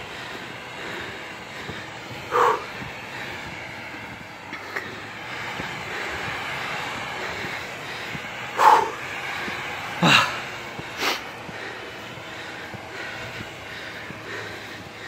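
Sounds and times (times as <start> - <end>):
pickup engine running: 0.0 - 15.0.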